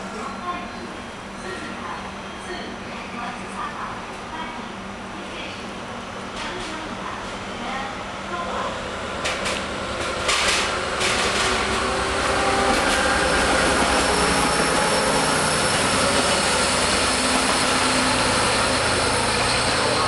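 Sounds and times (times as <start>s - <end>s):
diesel locomotive engine: 0.0s - 20.0s.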